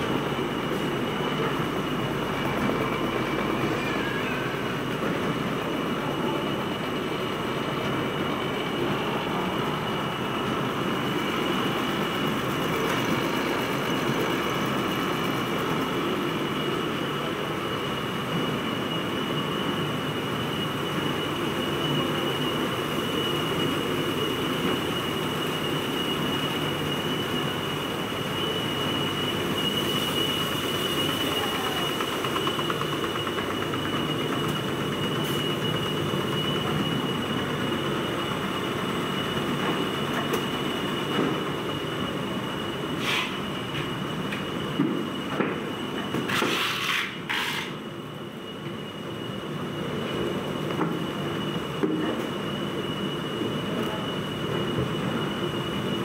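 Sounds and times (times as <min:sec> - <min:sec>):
high machine whine: 0:00.0 - 0:56.0
machine clatter and hum: 0:00.0 - 0:56.0.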